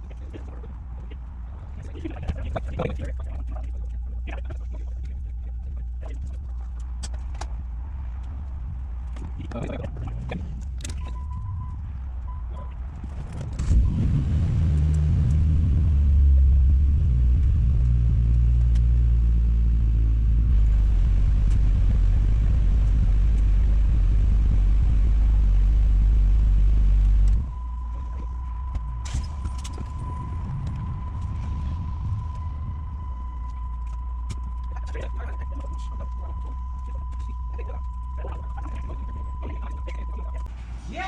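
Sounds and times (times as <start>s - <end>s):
deep car exhaust drone: 0.0s - 41.0s.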